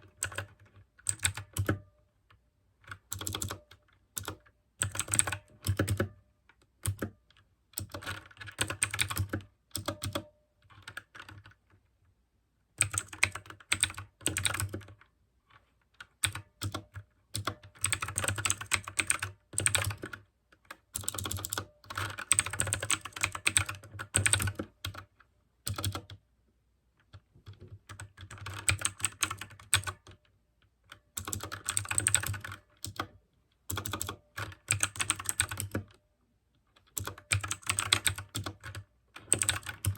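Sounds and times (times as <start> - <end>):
clicky mechanical keyboard typing: 0.0 - 11.8, 12.8 - 26.2, 27.0 - 30.3, 30.9 - 36.0, 36.7 - 39.9.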